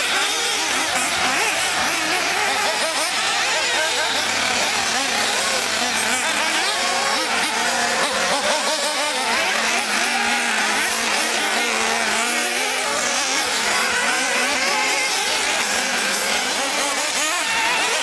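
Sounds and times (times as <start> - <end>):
small engines buzzing at high revs: 0.0 - 18.0.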